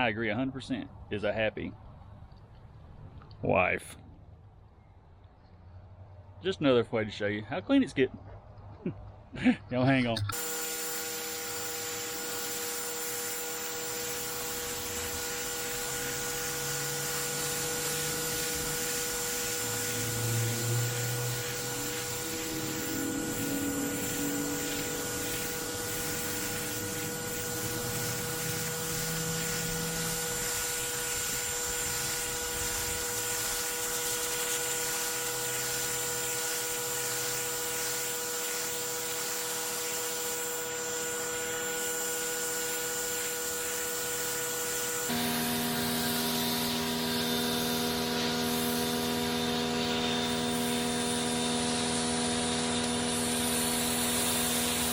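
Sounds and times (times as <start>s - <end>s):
pressure washer hum: 10.1s - 54.9s
water jet hissing on concrete: 10.3s - 54.9s.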